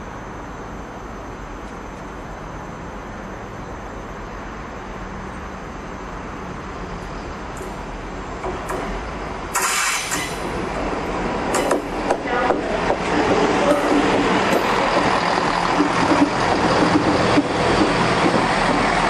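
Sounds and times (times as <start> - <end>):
diesel locomotive rumbling: 0.0 - 19.0.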